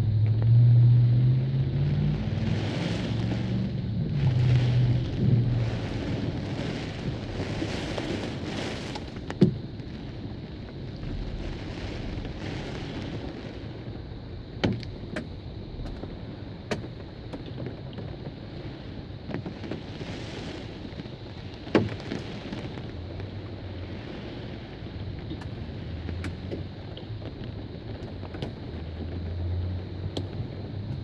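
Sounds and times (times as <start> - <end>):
heavy rain: 0.0 - 31.0
wind: 0.0 - 31.0.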